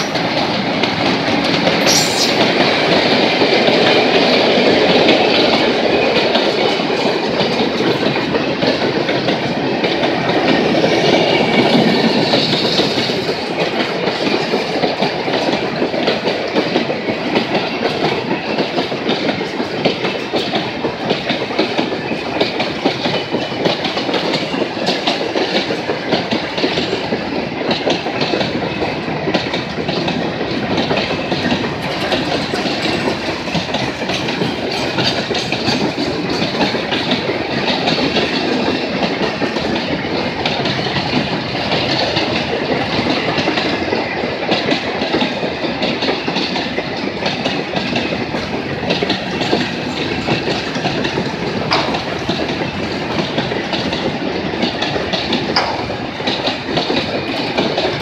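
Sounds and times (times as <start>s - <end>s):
freight train rumbling past: 0.0s - 58.0s
train wheels clickety-clack: 0.0s - 58.0s.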